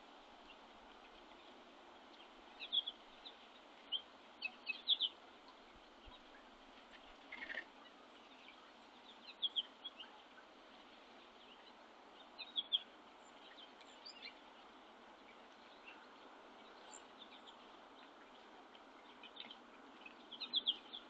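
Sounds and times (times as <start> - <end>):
songbirds chirping: 0.0 - 21.0
steady background hiss: 0.0 - 21.0.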